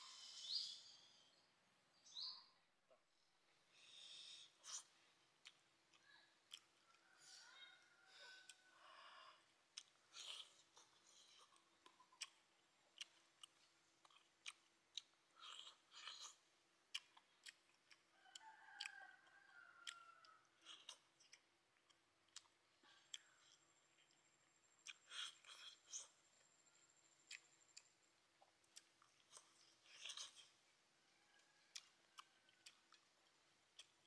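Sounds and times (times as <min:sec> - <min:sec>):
close-up chewing: 0:03.8 - 0:34.0.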